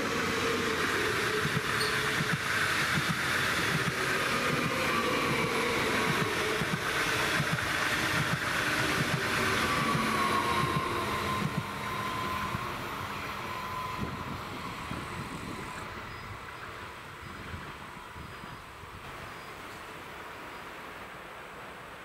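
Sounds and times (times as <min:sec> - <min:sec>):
train wheels clicking on track: 0:00.0 - 0:19.8
high train whine: 0:00.0 - 0:22.0.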